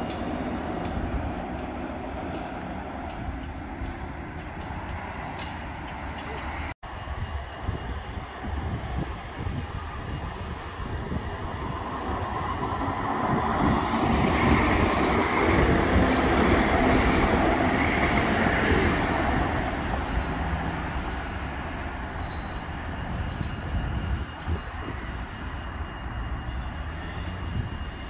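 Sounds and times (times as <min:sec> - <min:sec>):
trams passing on rails: 0:00.0 - 0:28.0.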